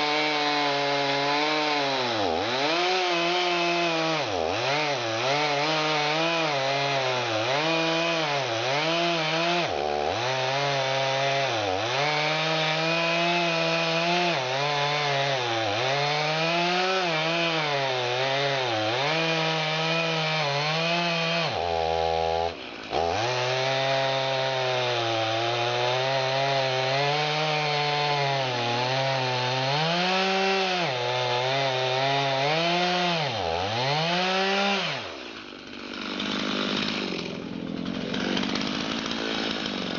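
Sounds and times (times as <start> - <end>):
engine labouring under load: 0.0 - 39.9.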